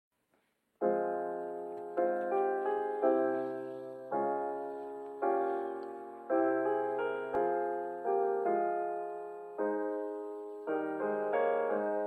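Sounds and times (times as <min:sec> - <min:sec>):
slow soft keyboard chords: 0:00.8 - 0:12.0.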